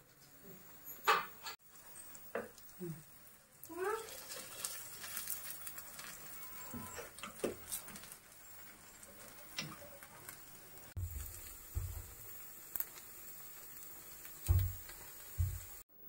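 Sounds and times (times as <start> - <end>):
dumplings sizzling in oil: 0.1 - 15.9.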